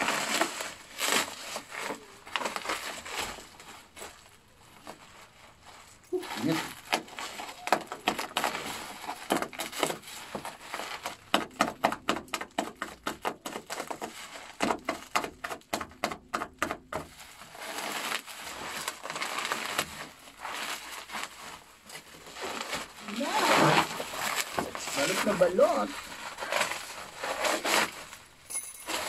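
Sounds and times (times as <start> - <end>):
plastic rustling: 0.0 - 29.0
plastic wrapping crinkling and tearing: 0.0 - 29.0.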